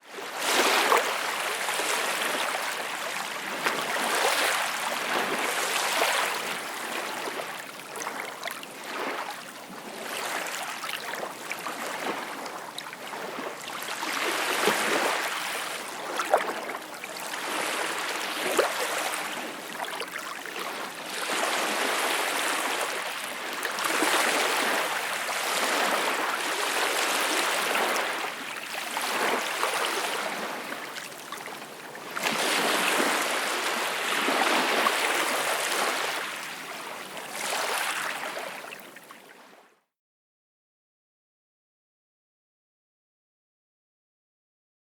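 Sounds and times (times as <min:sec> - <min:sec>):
water splashes: 0:00.1 - 0:39.1
small waves lapping: 0:00.1 - 0:39.6.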